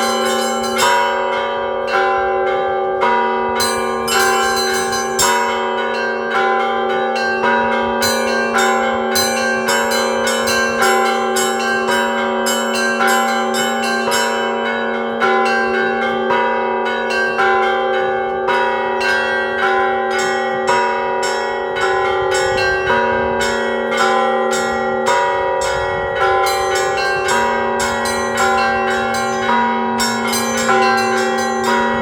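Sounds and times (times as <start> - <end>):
church bells pealing: 0.0 - 32.0
deep bell hum: 0.0 - 32.0.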